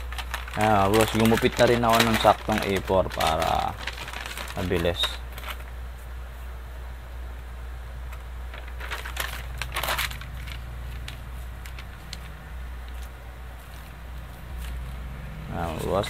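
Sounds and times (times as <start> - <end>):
thin sheet rustling and crinkling: 0.0 - 6.5, 8.4 - 15.0.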